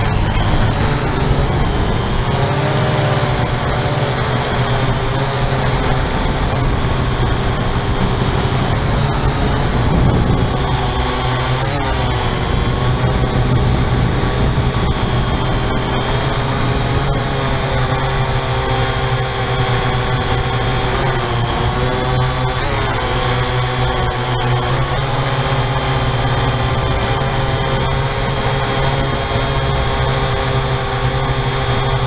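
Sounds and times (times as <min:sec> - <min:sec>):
drone propellers whirring: 0:00.0 - 0:32.0.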